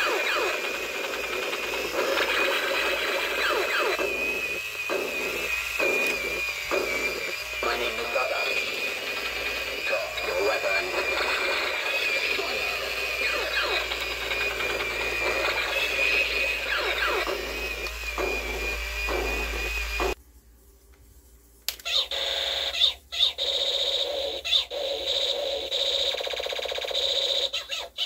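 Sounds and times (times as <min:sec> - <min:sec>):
toy robot electronic beeping: 0:00.0 - 0:20.2, 0:21.7 - 0:28.0
toy robot laser-like tones: 0:00.0 - 0:20.2, 0:21.7 - 0:28.0.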